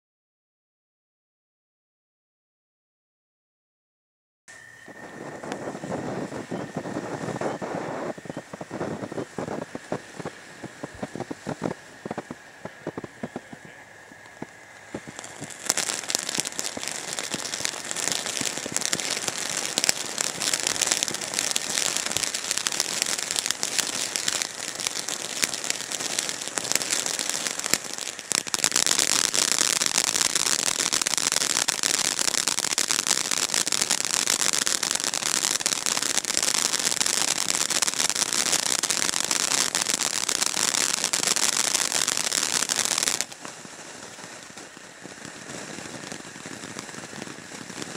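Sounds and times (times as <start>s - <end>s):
firework fountain crackling hiss: 4.5s - 47.9s.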